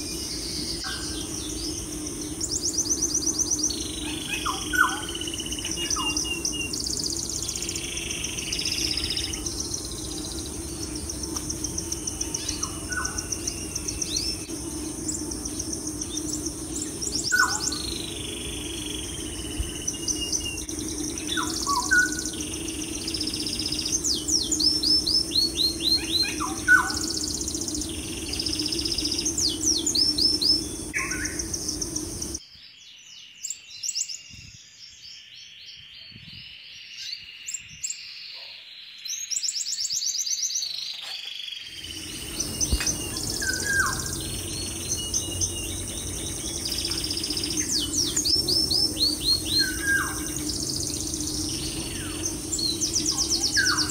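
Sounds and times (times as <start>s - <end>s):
steady low hum: 0.0s - 32.4s, 41.7s - 53.9s
birds chirping and trilling: 0.0s - 53.9s.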